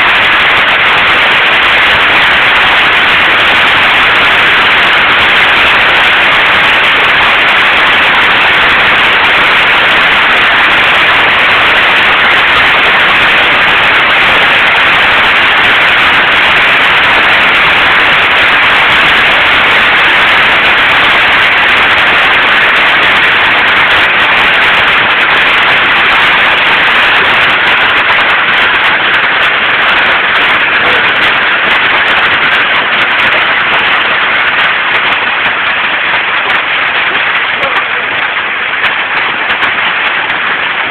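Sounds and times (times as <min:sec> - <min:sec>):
hail pelting down: 0:00.0 - 0:40.9.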